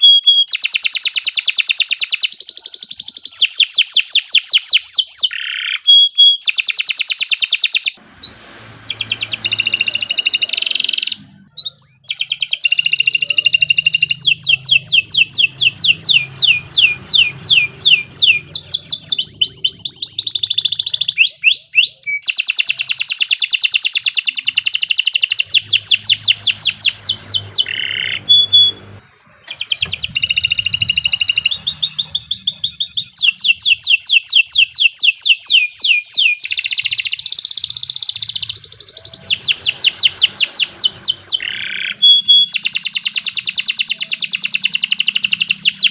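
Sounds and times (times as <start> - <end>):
canary singing rapid trills: 0.0 - 45.9.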